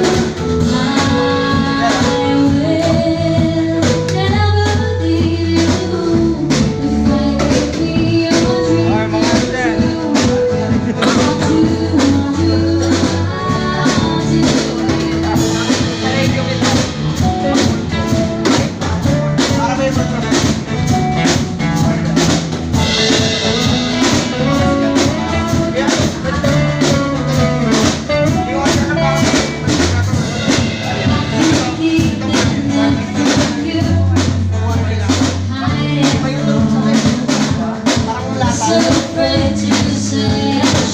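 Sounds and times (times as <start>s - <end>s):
bass and guitar: 0.0s - 40.9s
drum kit beat: 0.0s - 40.9s
person singing: 0.0s - 40.9s.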